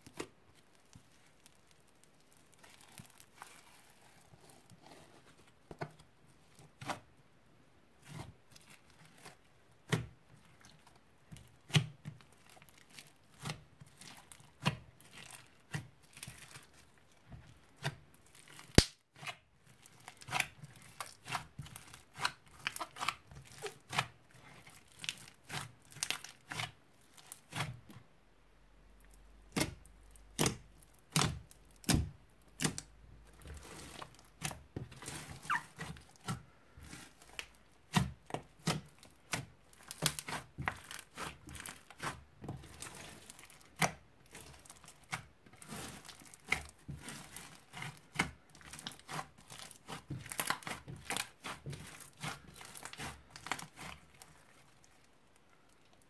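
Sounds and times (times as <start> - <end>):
slime squelching with wet pops: 8.0 - 27.9, 29.1 - 56.0.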